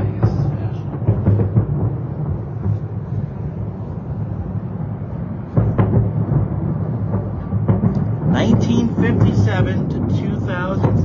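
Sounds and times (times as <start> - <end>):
distant fireworks booming: 0.0 - 11.0
rolling rumble: 0.0 - 11.0.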